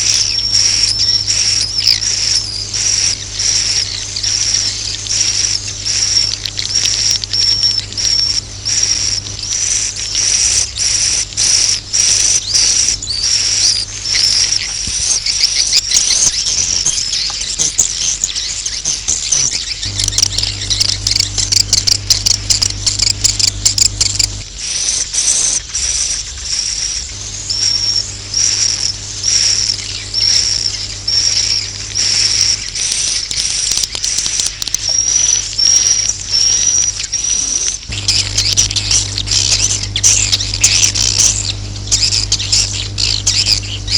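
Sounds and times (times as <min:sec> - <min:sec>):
steady low hum: 0:00.0 - 0:43.9
swiftlets chirping: 0:00.0 - 0:43.9.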